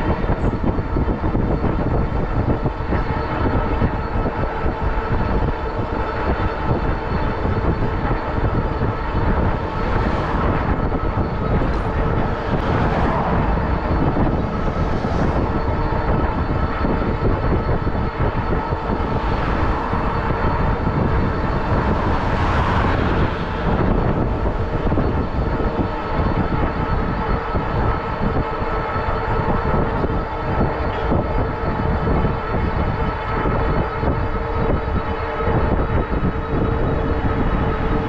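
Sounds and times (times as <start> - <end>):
passing vehicles: 0.0 - 38.0
street traffic: 0.0 - 38.0
wind noise on microphone: 0.0 - 38.0.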